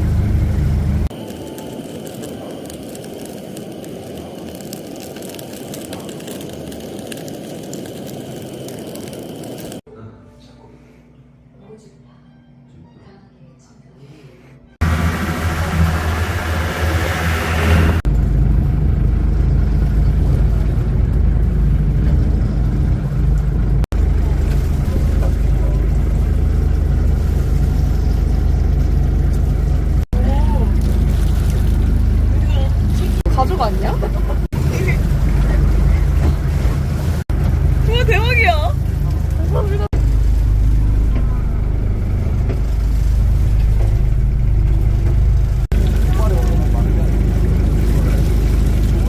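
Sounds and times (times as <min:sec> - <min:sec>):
boat engine running: 0:00.0 - 0:09.8, 0:14.8 - 0:49.0.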